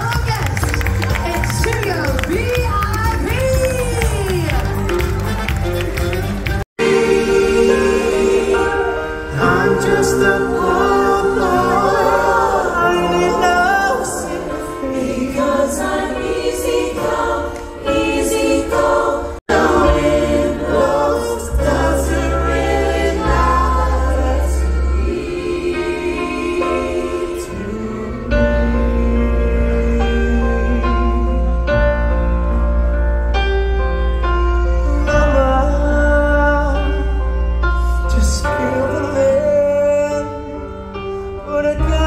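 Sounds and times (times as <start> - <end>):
music with singing: 0.0 - 42.0.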